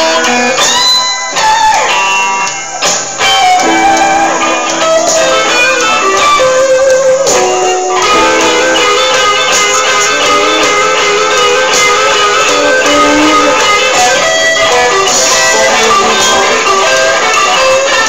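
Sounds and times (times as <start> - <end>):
blues band playing: 0.0 - 18.0
guitar improvising: 0.0 - 18.0.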